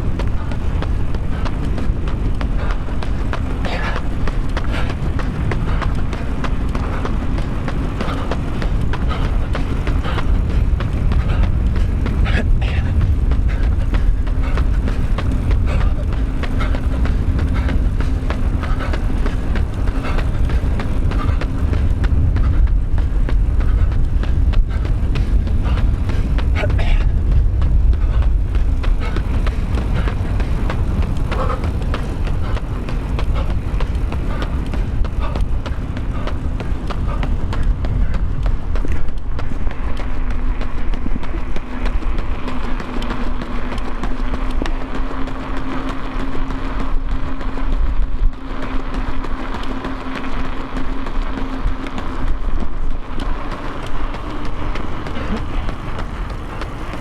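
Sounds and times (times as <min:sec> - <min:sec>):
road vehicle rumbling: 0:00.0 - 0:57.0
steady hum: 0:00.0 - 0:57.0.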